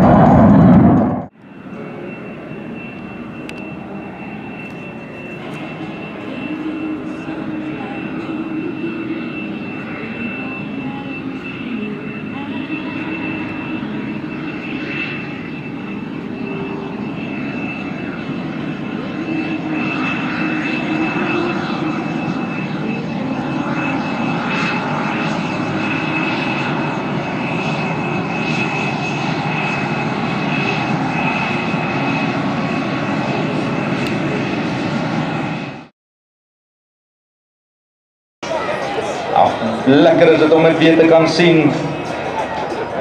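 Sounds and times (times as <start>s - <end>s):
jet engine whine and rush: 0.0s - 35.9s, 38.4s - 43.0s.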